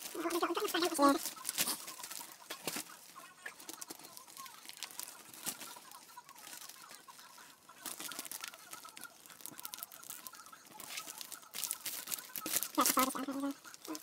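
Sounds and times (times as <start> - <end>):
plastic film crinkling: 0.0 - 14.0.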